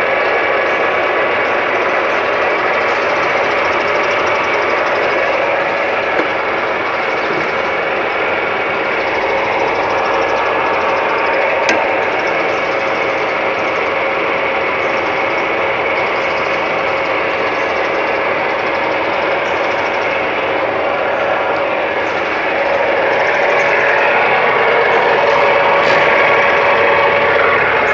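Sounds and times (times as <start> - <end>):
metal lathe whining: 0.0 - 27.9.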